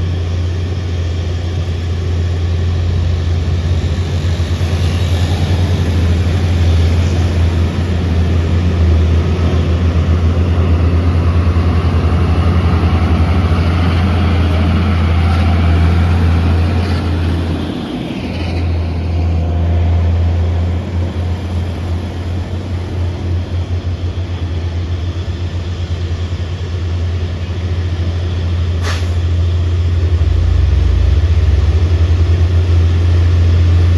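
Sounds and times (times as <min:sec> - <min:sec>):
diesel truck engine labouring: 0:00.0 - 0:33.9.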